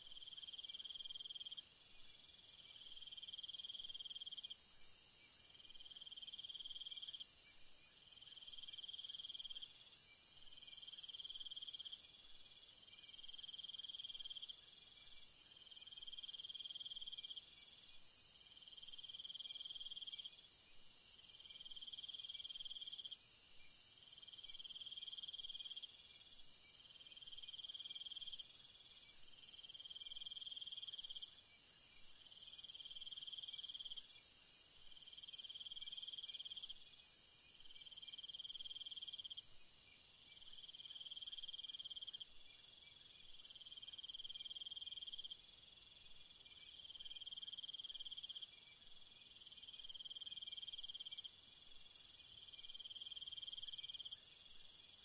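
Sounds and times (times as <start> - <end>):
lower pulsing insect call: 0.0 - 55.0
high-pitched insect trill: 0.1 - 55.0.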